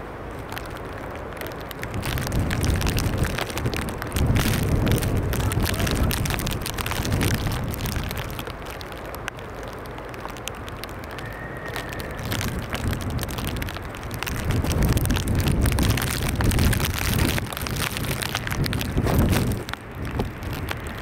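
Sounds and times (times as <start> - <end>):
wind gusts buffeting microphone: 0.0 - 21.0.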